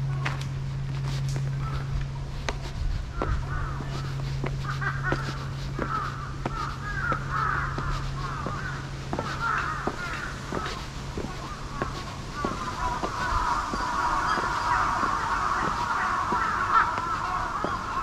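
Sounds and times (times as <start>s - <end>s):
footsteps on stone steps: 0.0s - 18.0s
steady low hum: 0.0s - 18.0s
crows cawing: 1.1s - 18.0s.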